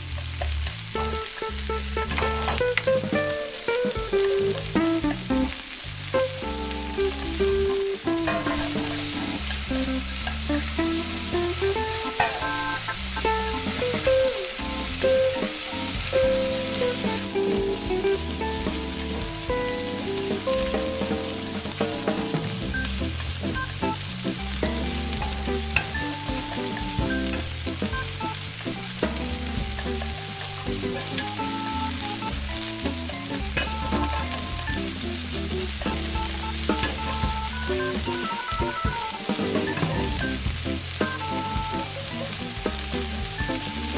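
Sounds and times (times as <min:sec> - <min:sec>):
food sizzling in a pan: 0:00.0 - 0:43.9
soft background tune: 0:00.9 - 0:43.9.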